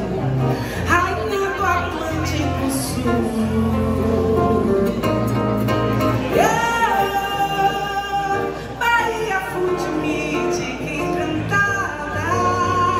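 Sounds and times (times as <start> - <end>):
acoustic guitar: 0.0 - 12.9
woman singing with vibrato: 0.7 - 5.3, 6.2 - 12.9.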